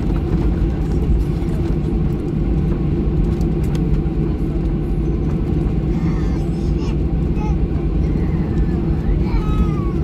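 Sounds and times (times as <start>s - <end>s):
low engine rumble in cabin: 0.0s - 10.0s
wheels rolling on taxiway: 0.0s - 10.0s.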